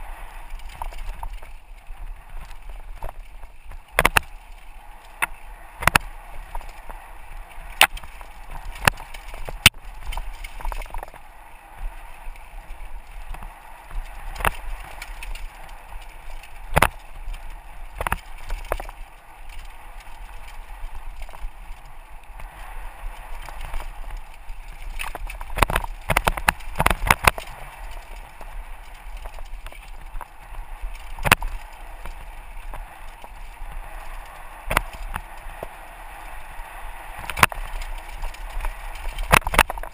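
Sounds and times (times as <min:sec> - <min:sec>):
tyres rushing on dirt: 0:00.0 - 0:39.9
bike knocks and rattles: 0:00.4 - 0:35.8, 0:37.2 - 0:39.9.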